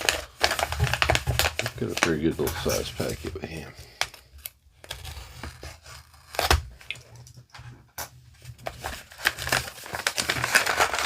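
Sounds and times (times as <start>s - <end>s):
packaging crinkling and tearing: 0.0s - 7.0s, 8.6s - 11.0s.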